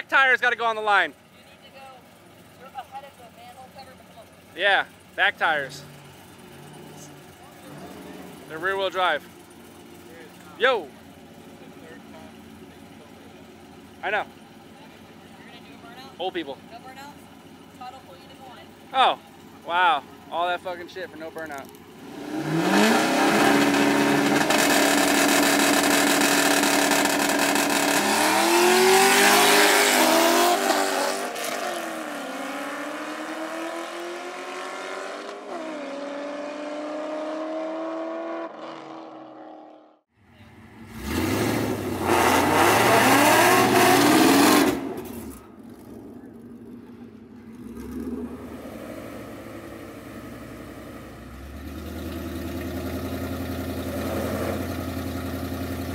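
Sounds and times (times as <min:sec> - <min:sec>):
engines idling: 0:00.0 - 0:33.5, 0:40.2 - 0:55.9
cars passing at full throttle: 0:00.0 - 0:55.9
race car engines revving: 0:00.0 - 0:55.9.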